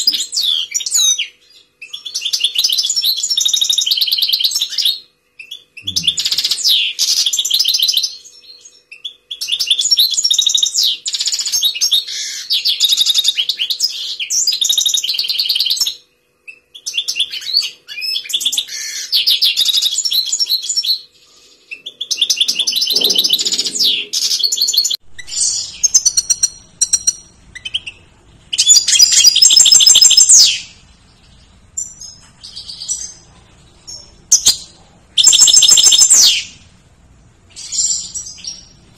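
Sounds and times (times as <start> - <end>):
finch twittering song: 0.0 - 36.7, 37.4 - 38.9.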